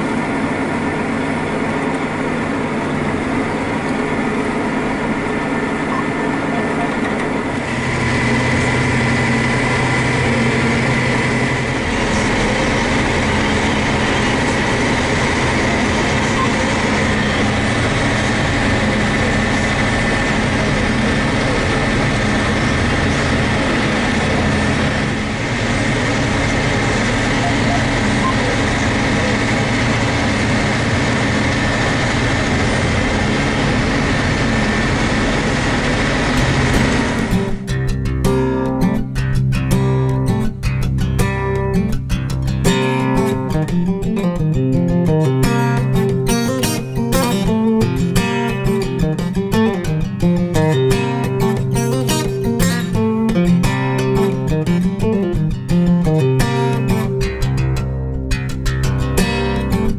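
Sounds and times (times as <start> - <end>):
high engine whine: 0.0 - 59.9
tractor diesel engine drone: 0.0 - 59.9.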